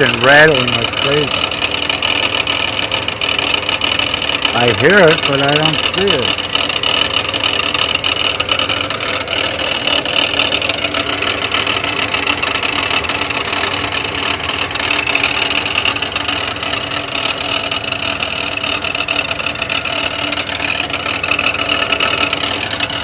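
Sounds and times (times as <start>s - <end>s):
car engine running: 0.0s - 23.0s
fast rattle from engine bay: 0.0s - 23.0s.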